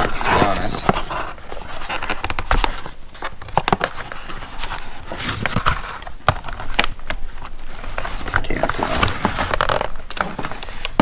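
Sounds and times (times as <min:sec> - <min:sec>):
handling cardboard and packaging: 0:00.0 - 0:11.0.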